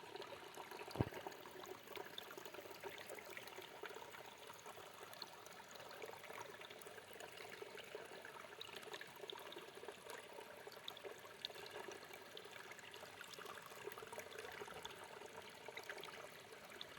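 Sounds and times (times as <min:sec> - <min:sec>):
stream trickling over rocks: 0:00.0 - 0:16.9.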